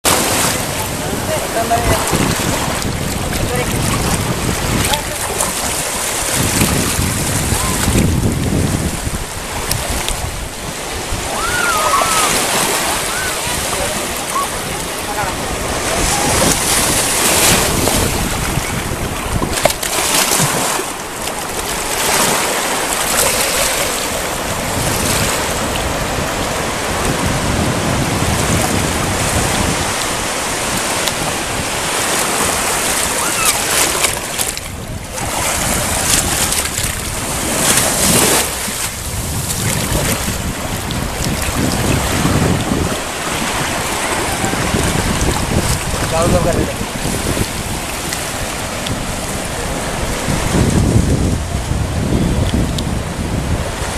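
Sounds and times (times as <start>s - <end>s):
ocean waves breaking on beach: 0.0s - 53.9s
wind buffeting microphone: 0.0s - 53.9s.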